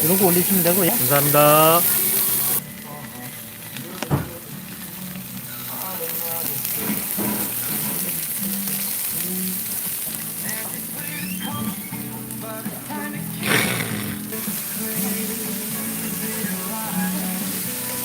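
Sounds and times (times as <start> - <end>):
meat sizzling: 0.0 - 18.0.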